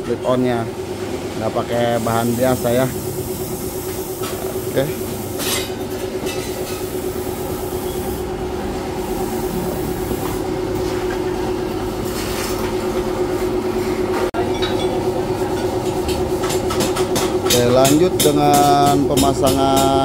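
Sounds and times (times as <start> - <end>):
workshop machine humming: 0.0 - 20.0.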